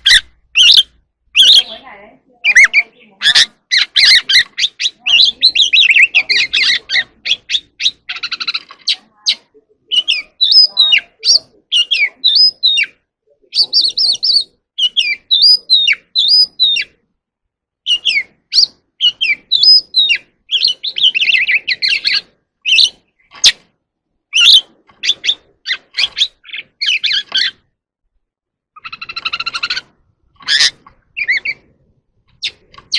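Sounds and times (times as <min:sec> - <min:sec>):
bird singing: 0:00.0 - 0:17.0, 0:17.8 - 0:23.6, 0:24.3 - 0:27.7, 0:28.7 - 0:31.7.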